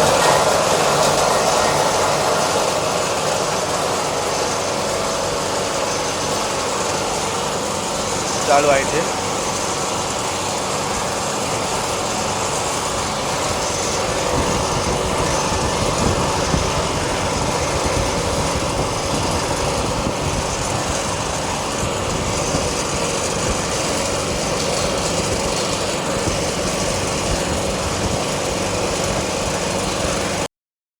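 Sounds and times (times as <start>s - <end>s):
freezer compressor running: 0.0s - 30.5s.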